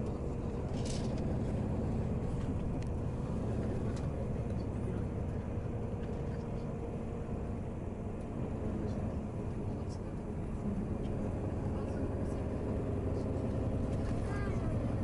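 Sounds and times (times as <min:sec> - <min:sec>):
vehicle running low rumble: 0:00.0 - 0:15.0.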